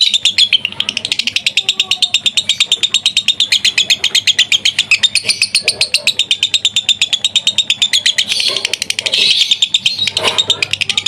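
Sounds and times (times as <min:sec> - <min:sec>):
lovebird chattering trill: 0:00.0 - 0:11.0.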